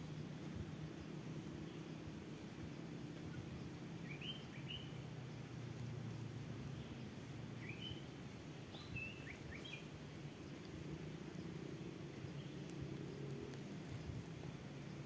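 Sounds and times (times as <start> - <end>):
small birds chirping: 0.9 - 15.0.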